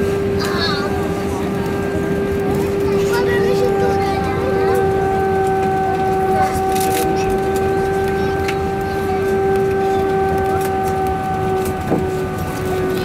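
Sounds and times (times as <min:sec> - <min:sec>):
aircraft cabin engine hum: 0:00.0 - 0:13.0.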